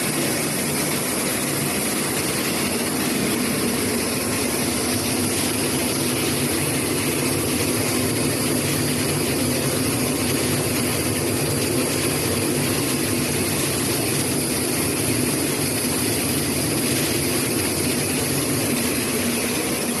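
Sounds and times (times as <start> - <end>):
milling machinery hum: 0.0 - 20.0.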